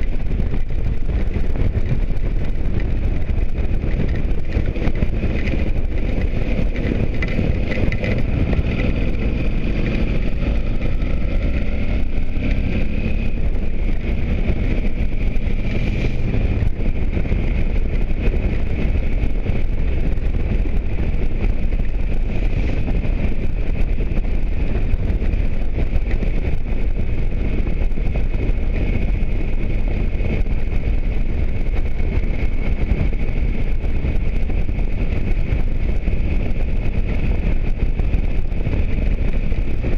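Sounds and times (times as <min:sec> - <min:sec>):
motorcycle engine with high whine: 0:00.0 - 0:39.9
road rumble: 0:00.0 - 0:39.9
wind on microphone: 0:00.0 - 0:39.9.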